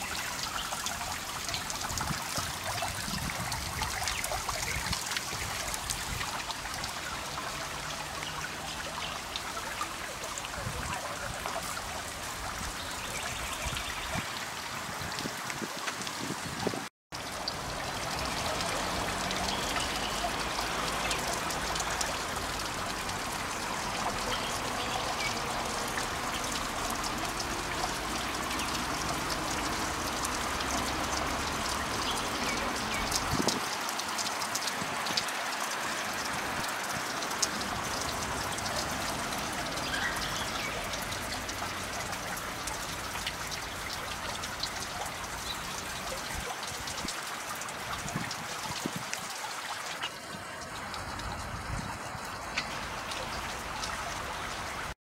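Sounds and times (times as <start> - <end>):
water trickling in a fountain: 0.0 - 55.0.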